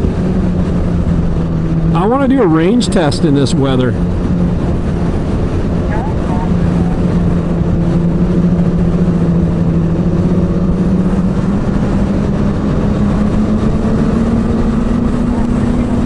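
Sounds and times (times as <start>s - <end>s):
constant rushing noise: 0.0s - 16.0s
snowmobile engine running: 0.0s - 16.0s.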